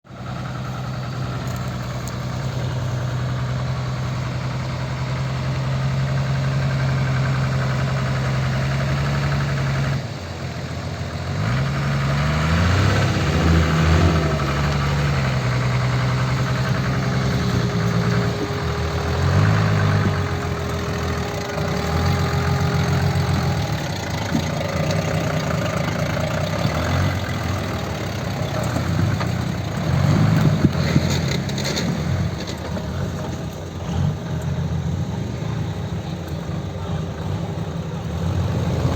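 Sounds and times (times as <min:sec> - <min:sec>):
diesel engine running and revving: 0:00.0 - 0:38.9.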